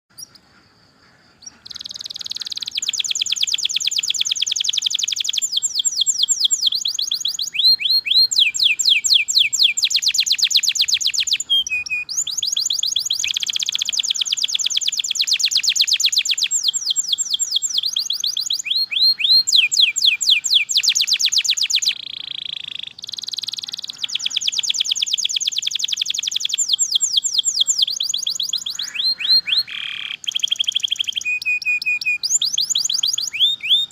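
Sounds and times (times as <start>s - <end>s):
canary singing trills: 0.1s - 33.9s.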